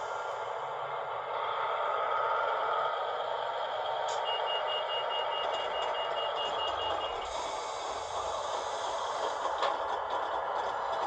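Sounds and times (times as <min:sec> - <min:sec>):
diesel train idling: 0:00.0 - 0:11.0.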